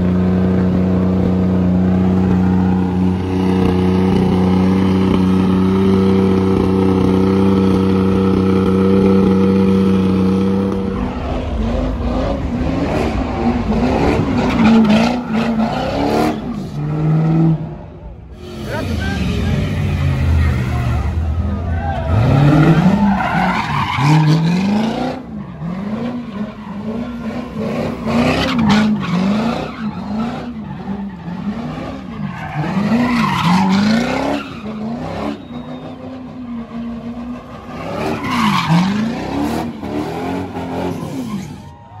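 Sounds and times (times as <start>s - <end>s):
car engine revving: 0.0s - 41.6s
tyres skidding and squealing: 0.0s - 42.0s.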